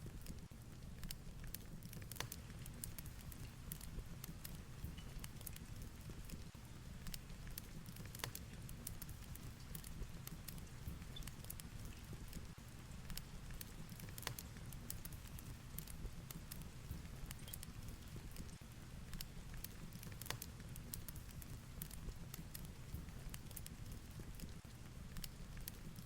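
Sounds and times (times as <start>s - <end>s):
fireplace crackling and popping: 0.0s - 26.0s.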